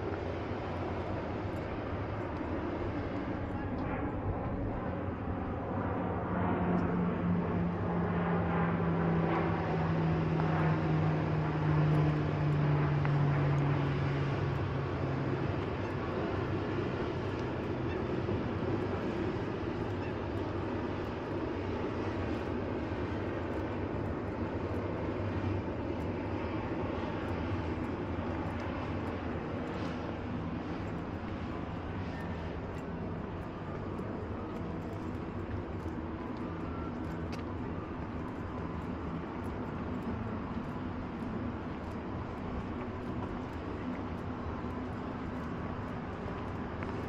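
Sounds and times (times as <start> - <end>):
distant engine drone: 0.0 - 47.0
outdoor background noise: 0.0 - 47.0.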